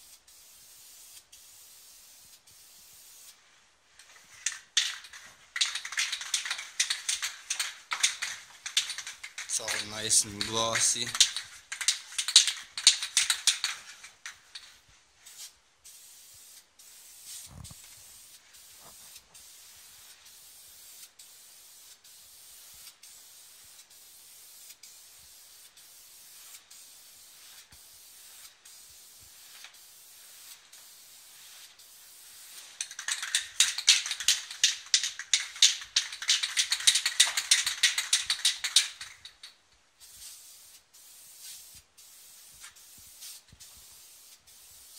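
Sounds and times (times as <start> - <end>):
aerosol spray can hissing: 0.0 - 44.9.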